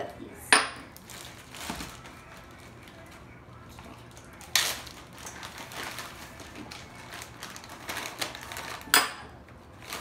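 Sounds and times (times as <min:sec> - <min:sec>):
plastic bag crinkling: 0:00.9 - 0:09.0, 0:09.7 - 0:10.0.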